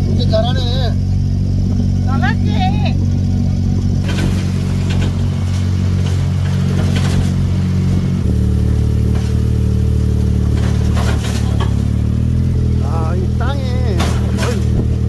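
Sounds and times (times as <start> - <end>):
car engine running: 0.0 - 15.0
rattles and knocks: 1.3 - 15.0.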